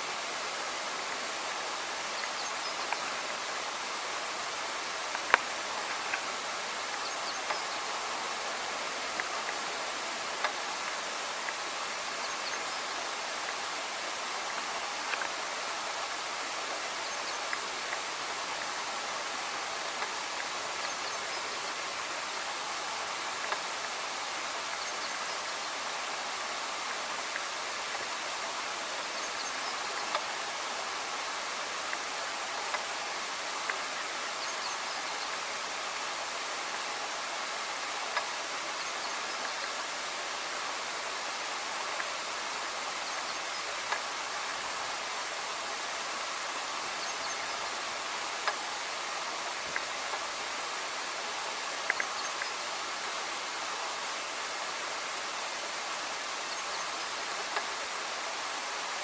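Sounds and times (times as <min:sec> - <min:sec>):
steady rushing hiss: 0:00.0 - 0:59.0.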